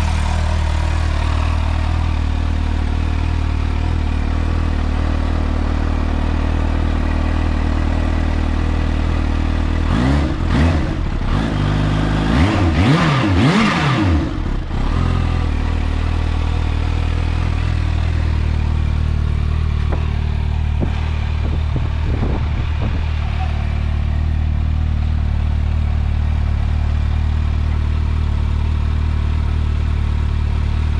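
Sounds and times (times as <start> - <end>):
engine revving: 0.0 - 27.1
motorcycle engine idling: 0.0 - 30.9.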